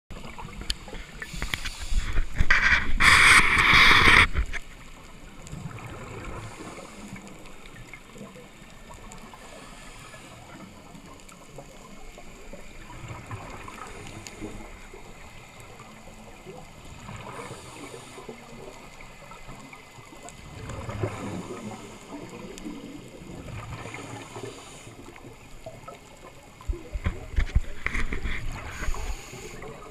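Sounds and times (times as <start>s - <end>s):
regulator bubbles underwater: 0.1s - 29.9s
muffled underwater hiss: 0.2s - 29.9s.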